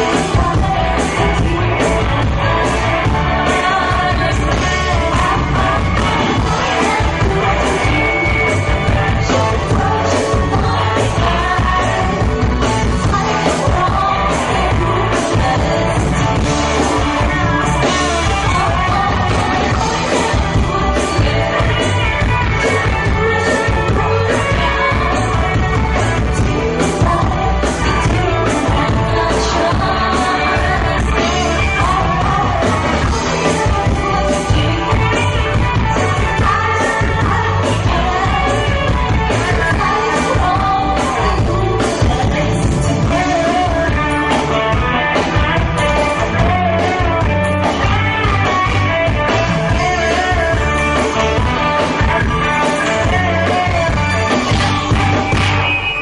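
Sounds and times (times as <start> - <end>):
person singing: 0.0 - 55.7
band with steady beat: 0.0 - 56.0.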